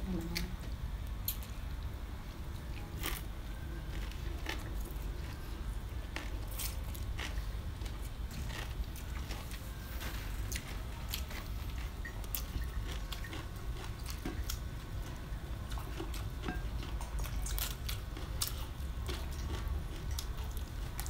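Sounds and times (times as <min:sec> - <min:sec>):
person chewing: 0:02.6 - 0:21.0.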